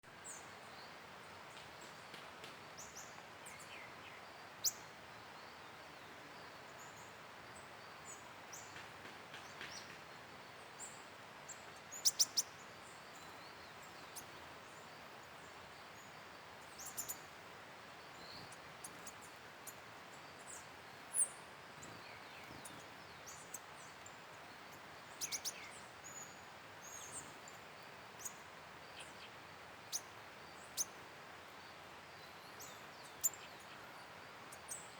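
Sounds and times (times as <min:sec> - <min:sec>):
birds chirping: 0:00.1 - 0:34.9
steady background hiss: 0:00.1 - 0:34.9.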